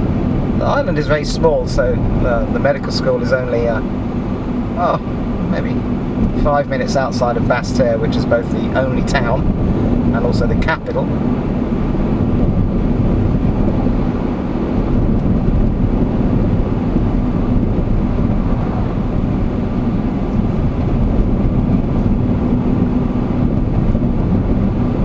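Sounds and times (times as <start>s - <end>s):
car engine hum: 0.0s - 25.0s
tyre and road rumble: 0.0s - 25.0s.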